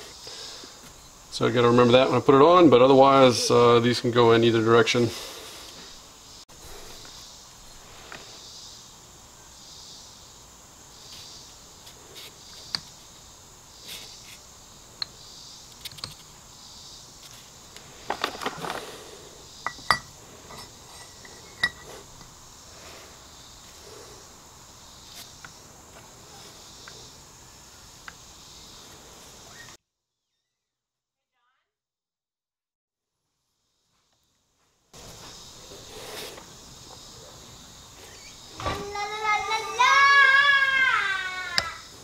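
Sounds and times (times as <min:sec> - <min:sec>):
faint high hiss: 0:00.0 - 0:29.8, 0:33.4 - 0:42.0.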